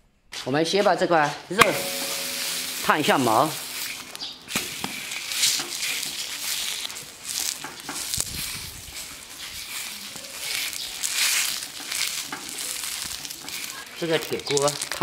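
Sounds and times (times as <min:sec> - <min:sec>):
pork skin sizzling in a wok: 0:01.8 - 0:15.0.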